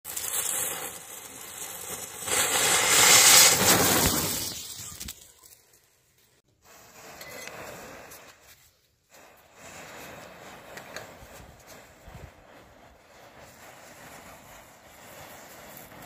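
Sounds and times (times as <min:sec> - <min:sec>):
faint crackle: 0:00.0 - 0:16.0
matches and firecracker crackling hiss: 0:00.0 - 0:16.0.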